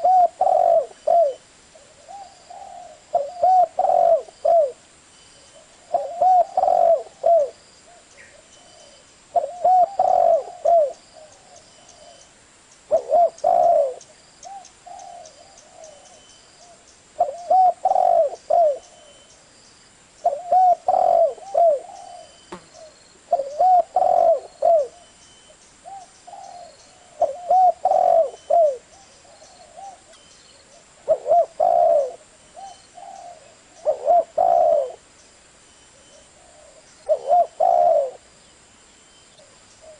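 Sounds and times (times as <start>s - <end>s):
dove cooing: 0.0s - 4.8s, 5.5s - 12.2s, 12.9s - 19.3s, 20.2s - 25.2s, 25.8s - 35.1s, 35.9s - 38.3s, 39.3s - 39.9s.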